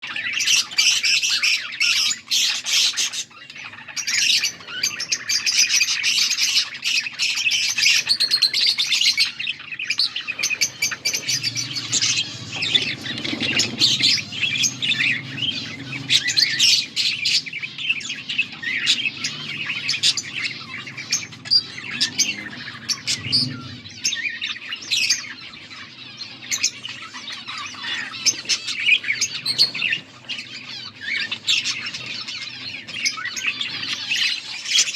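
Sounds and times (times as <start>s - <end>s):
budgerigars chirping and warbling: 0.0s - 34.9s
low background hum: 3.1s - 34.6s.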